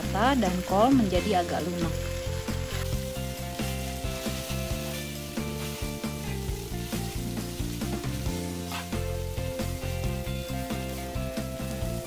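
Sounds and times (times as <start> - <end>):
noodles sizzling in frying pan: 0.0 - 12.0.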